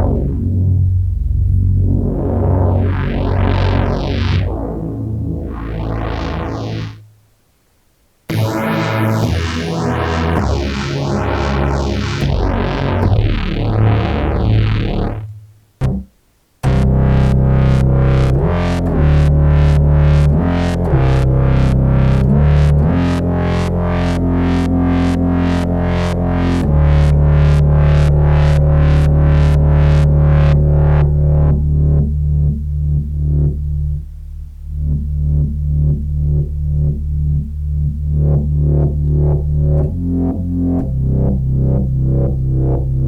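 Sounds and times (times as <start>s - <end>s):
pulsing synth pattern: 0.0s - 7.0s, 8.3s - 15.2s, 16.6s - 43.0s
deep sustained bass line: 0.0s - 7.1s, 8.3s - 43.0s
synth with sweeping filter: 0.0s - 7.1s, 8.3s - 43.0s.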